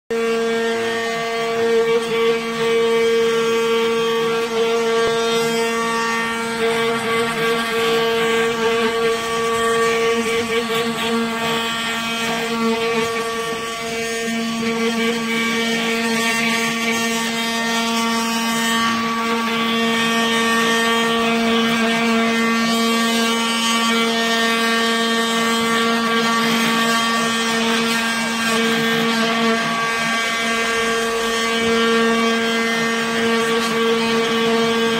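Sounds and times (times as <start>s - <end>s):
carving machine whine: 0.1s - 34.9s.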